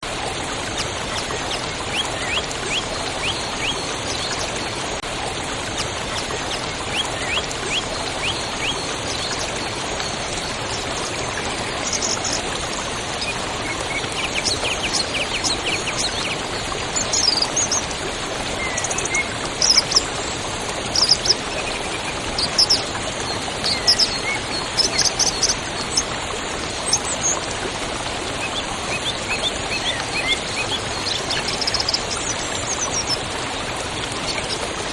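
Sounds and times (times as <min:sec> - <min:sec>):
river flowing: 0:00.1 - 0:34.9.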